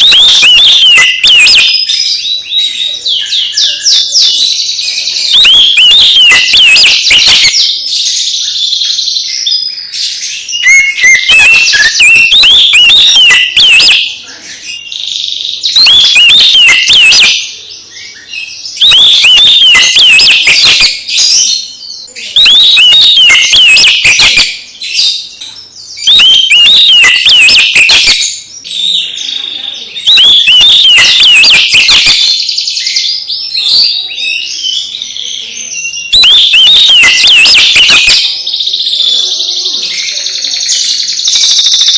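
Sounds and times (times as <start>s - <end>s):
bird singing whistles and trills: 0.0s - 41.9s.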